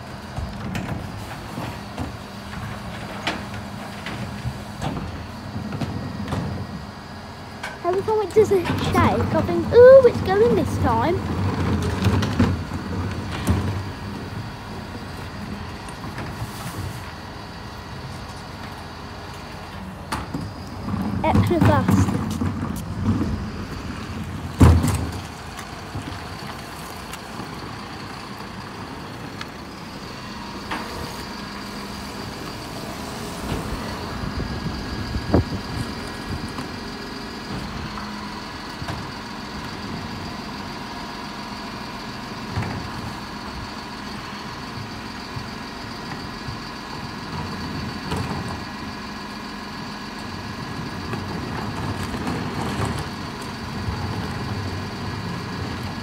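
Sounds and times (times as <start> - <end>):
truck engine whining: 0.0 - 56.0.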